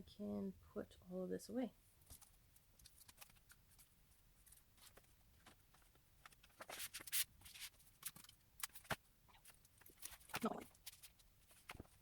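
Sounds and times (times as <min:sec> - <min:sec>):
paper and cardboard rustling: 0:02.1 - 0:12.0.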